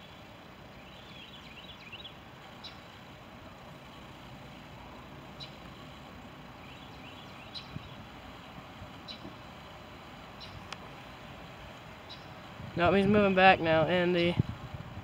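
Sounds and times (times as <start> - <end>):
faint birds chirping: 0.0 - 14.3
diesel locomotive idling: 0.0 - 15.0.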